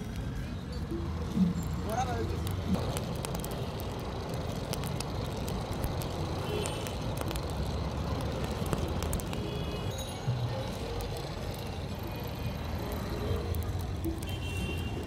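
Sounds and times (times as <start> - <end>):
charcoal fire crackling: 0.0 - 15.0
street traffic rumble: 0.0 - 15.0.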